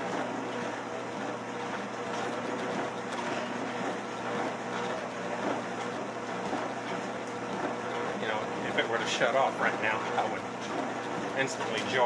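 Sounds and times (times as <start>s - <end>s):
treadmill motor and belt humming: 0.0s - 12.0s.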